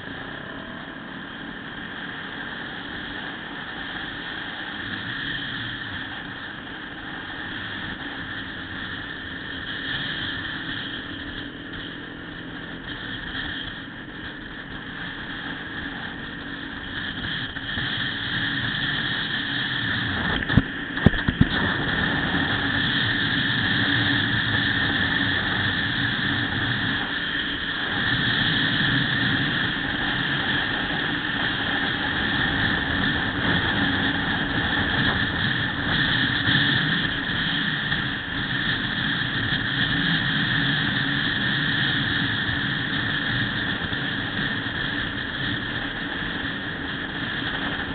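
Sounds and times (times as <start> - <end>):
motorcycle engine: 0.0 - 47.9
wind noise: 0.0 - 47.9.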